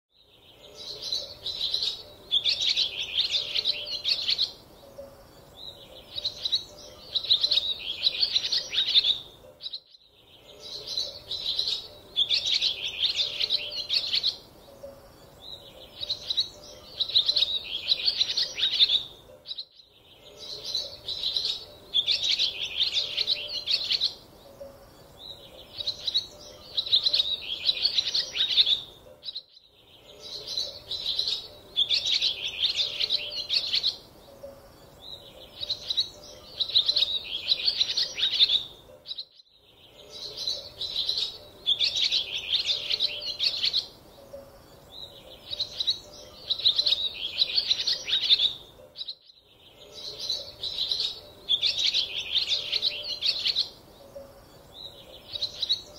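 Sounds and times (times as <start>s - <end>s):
songbirds chirping: 0.1s - 55.9s.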